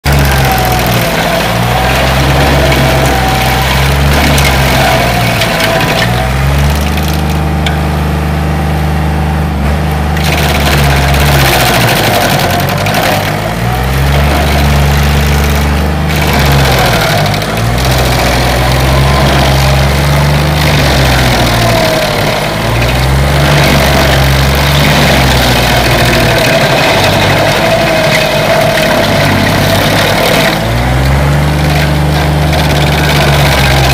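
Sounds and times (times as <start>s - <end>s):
stump grinder engine running hard: 0.0s - 33.9s.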